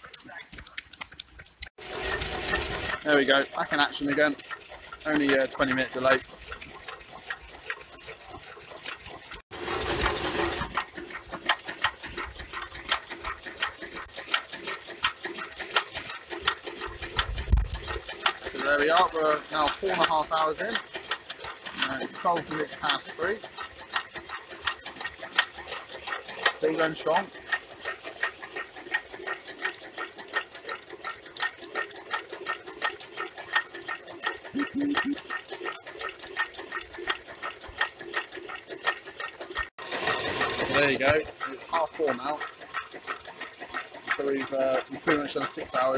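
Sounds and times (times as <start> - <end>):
engine mechanism clicking: 0.0 - 45.9.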